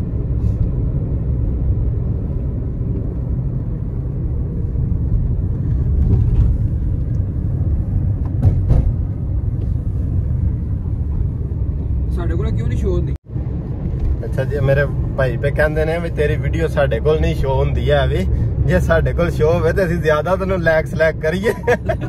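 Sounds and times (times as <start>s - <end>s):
car road noise rumble: 0.0s - 22.0s.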